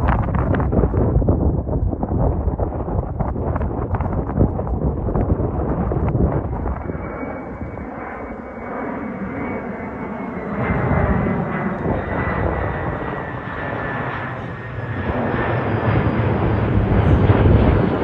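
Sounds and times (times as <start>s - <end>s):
high turbine whine: 0.0s - 18.0s
jet engines rumbling: 0.0s - 18.0s.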